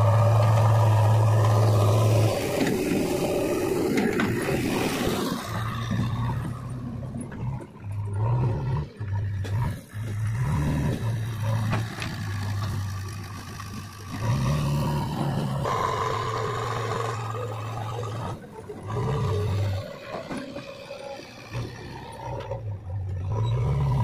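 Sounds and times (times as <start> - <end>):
diesel engine revving under load: 0.0 - 24.0.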